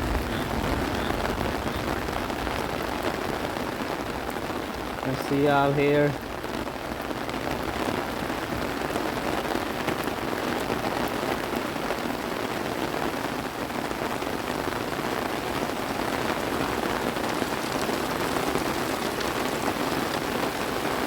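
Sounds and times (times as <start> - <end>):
raindrops pattering: 0.0 - 21.0
steady rain hiss: 0.0 - 21.0.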